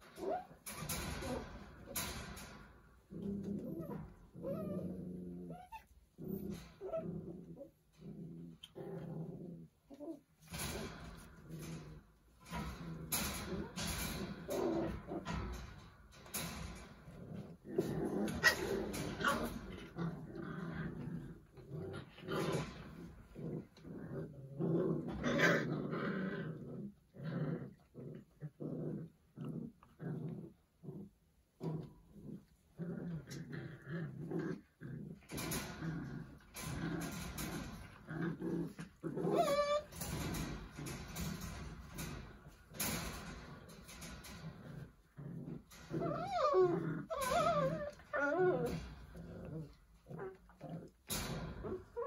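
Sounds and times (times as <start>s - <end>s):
puppies growling: 0.0s - 52.0s.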